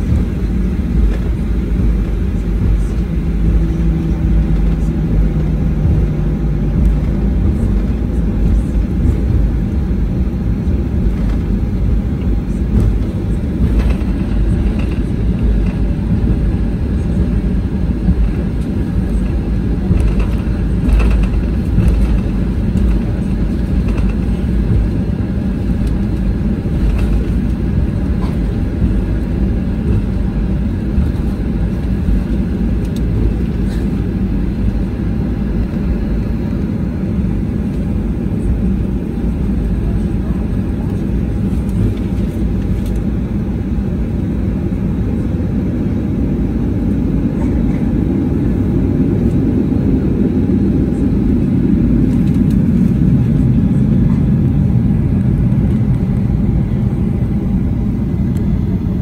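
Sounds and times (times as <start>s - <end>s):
airplane cabin rumble while taxiing: 0.0s - 59.0s.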